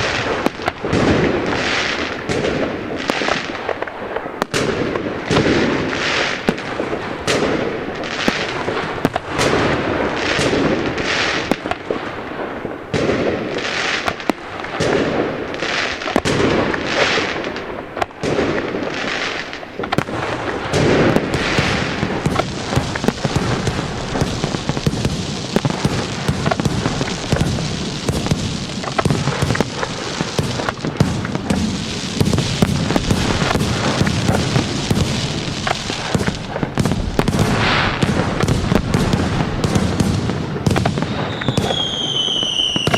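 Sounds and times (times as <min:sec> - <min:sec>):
fireworks bursts crackling: 0:00.0 - 0:42.9.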